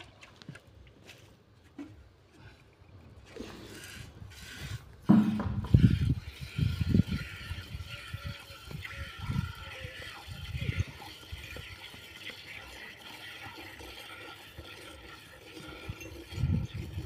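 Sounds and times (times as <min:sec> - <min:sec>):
milk squirting into metal bucket: 0:03.3 - 0:17.0.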